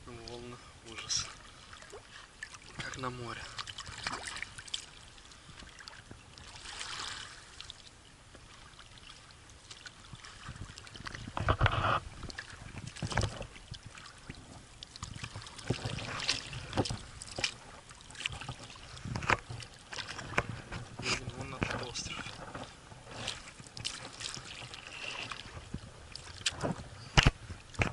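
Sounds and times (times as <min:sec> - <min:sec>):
waves splashing against boat: 0:00.0 - 0:27.9.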